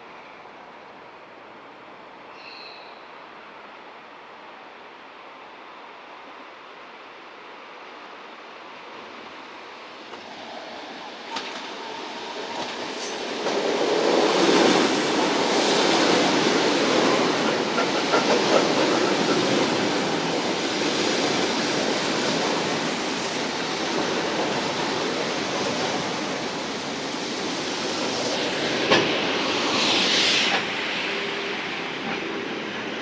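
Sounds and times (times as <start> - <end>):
train wheel-on-rail noise: 0.0 - 33.0.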